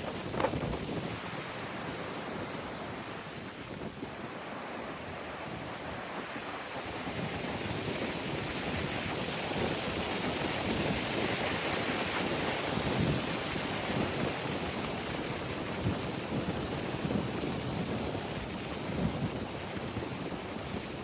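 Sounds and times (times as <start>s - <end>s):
strong wind gusting: 0.0s - 21.0s
wind noise on microphone: 0.0s - 21.0s.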